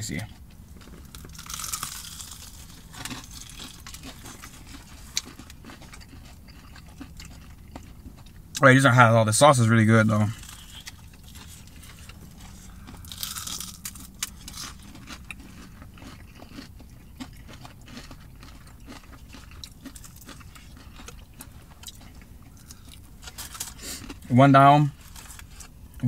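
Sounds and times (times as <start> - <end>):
low steady hum: 0.0 - 26.0
chewing crispy chicken: 0.2 - 8.7, 10.2 - 26.0.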